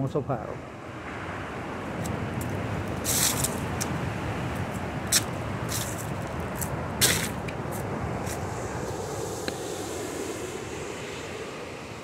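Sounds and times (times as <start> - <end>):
wind: 0.0 - 12.0
breaking surf: 0.9 - 12.0.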